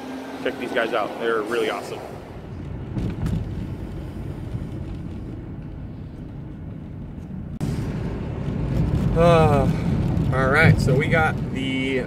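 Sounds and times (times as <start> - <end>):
road and engine rumble in van: 0.0 - 12.0.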